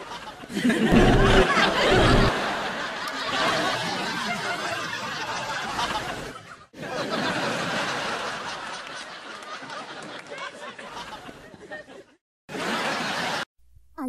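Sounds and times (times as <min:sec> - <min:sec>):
people laughing: 0:00.0 - 0:13.5.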